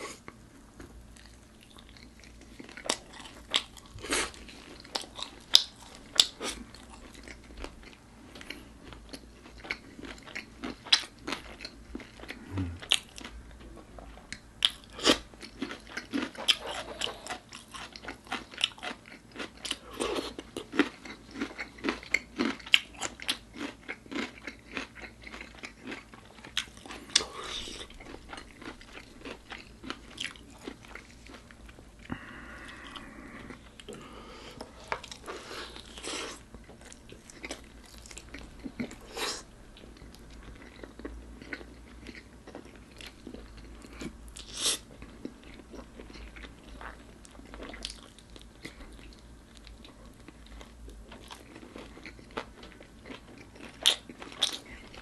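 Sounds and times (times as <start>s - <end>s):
crunching bites and chewing: 1.1s - 13.4s, 14.0s - 55.0s.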